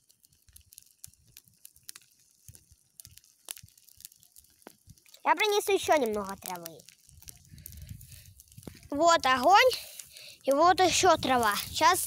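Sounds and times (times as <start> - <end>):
dry grass fire crackling: 0.0 - 12.0.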